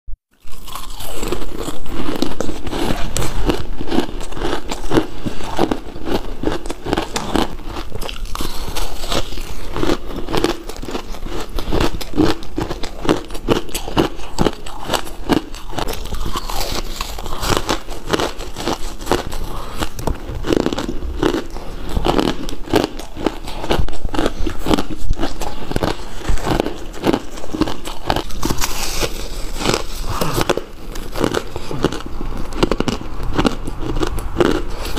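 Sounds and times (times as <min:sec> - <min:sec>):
ice crunching while chewing: 0:00.4 - 0:34.9.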